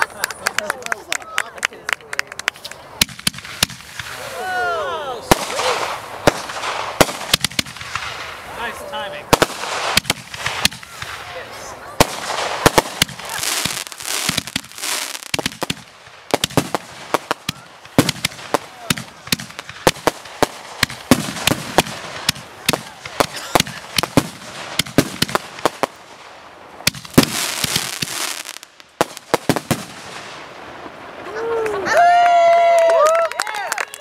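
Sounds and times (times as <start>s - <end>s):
fireworks crackling: 0.0s - 34.0s
fireworks bangs: 2.3s - 32.3s.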